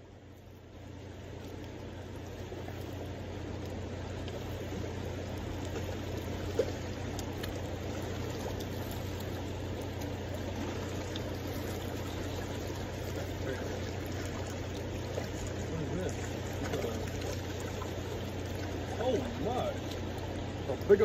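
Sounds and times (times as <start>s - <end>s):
river water rushing: 1.0s - 21.0s.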